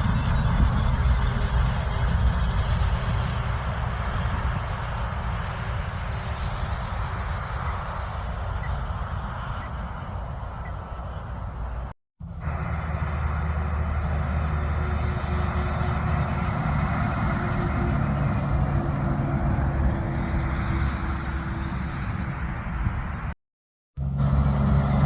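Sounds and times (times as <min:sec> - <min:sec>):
truck engine running: 0:00.0 - 0:23.3, 0:24.0 - 0:25.0.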